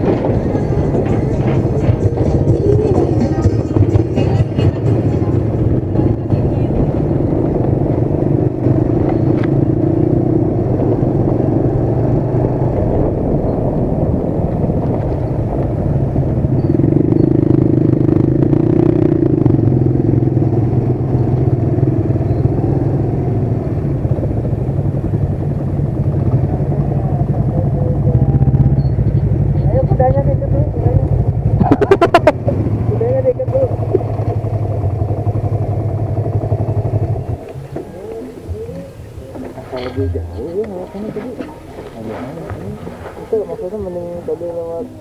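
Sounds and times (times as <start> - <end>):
motorcycle engine running: 0.0 - 45.0
road rumble: 0.0 - 45.0.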